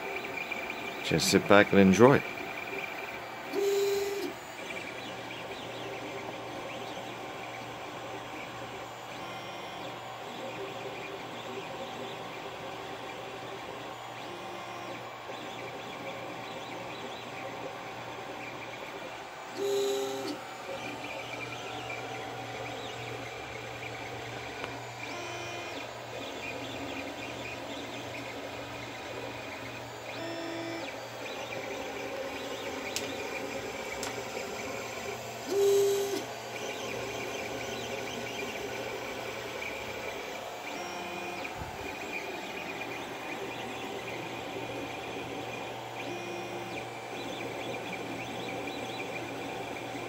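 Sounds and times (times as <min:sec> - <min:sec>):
fan hum: 0:00.0 - 0:50.0
stepper motor tones: 0:00.0 - 0:50.0.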